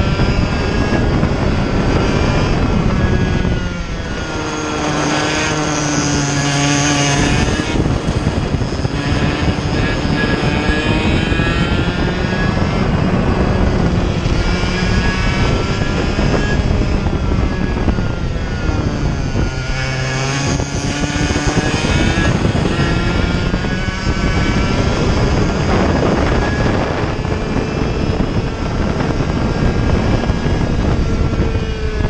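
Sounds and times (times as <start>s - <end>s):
kart engine racing: 0.0s - 32.0s.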